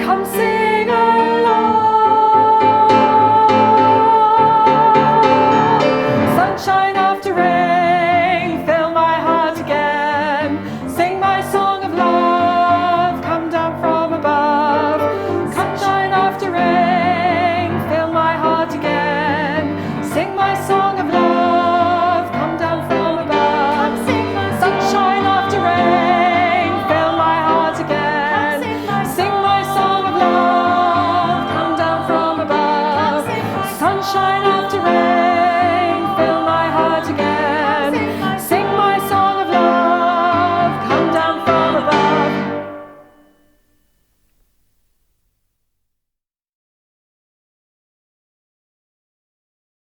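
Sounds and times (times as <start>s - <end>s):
group of singers singing: 0.0s - 43.5s.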